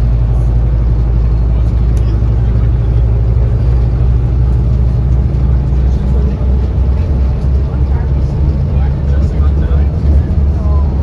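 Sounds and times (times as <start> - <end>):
bus diesel engine rumbling: 0.0 - 11.0
road noise: 0.0 - 11.0.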